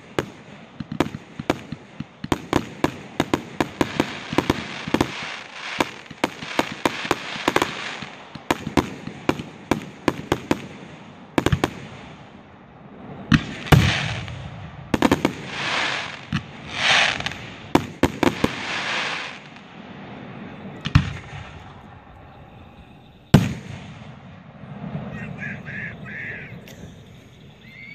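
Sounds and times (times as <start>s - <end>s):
loud firework bangs: 0.0s - 12.2s, 13.2s - 27.2s
hissing crackling firework bursts: 0.0s - 12.3s, 12.9s - 27.9s.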